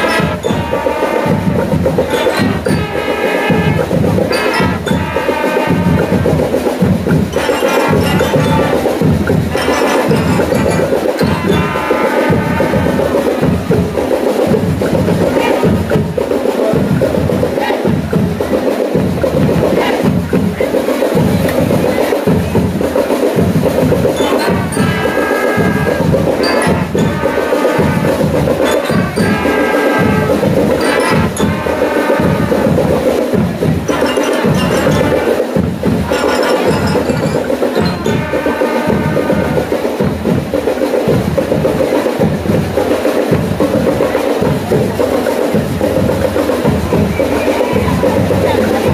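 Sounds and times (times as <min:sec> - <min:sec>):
steady drumbeat: 0:00.0 - 0:48.9
trumpets: 0:00.0 - 0:48.9.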